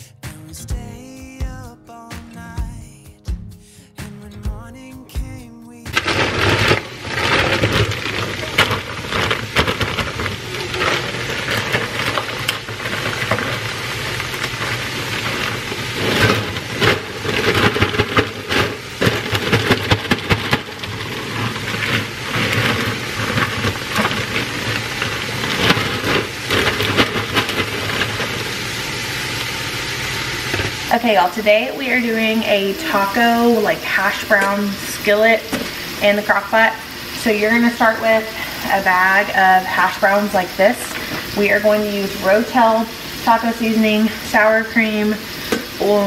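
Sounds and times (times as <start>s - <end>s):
plastic bag crinkling: 5.9s - 46.0s.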